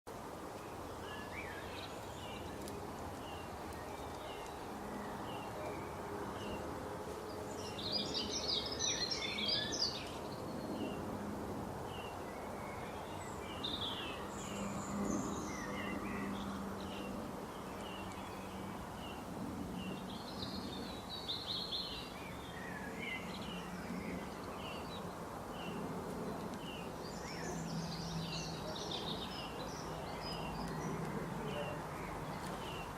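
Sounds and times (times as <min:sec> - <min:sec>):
low background noise: 0:00.1 - 0:32.9
songbirds singing: 0:00.1 - 0:32.9.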